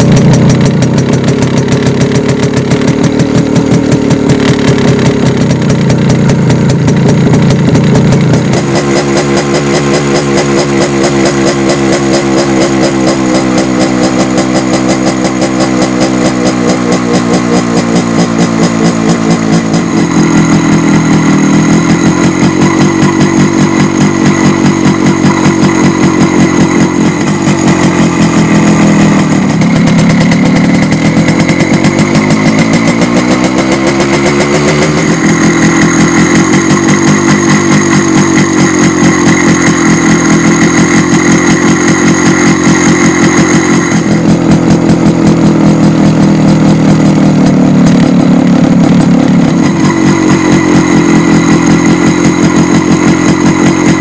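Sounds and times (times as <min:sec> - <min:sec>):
two-stroke motorcycle engine idling: 0:00.0 - 0:54.0.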